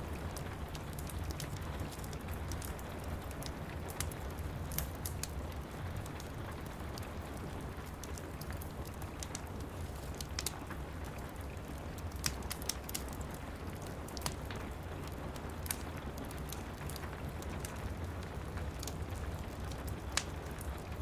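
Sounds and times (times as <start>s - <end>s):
rain pattering: 0.0s - 21.0s
wood fire crackling: 0.0s - 21.0s.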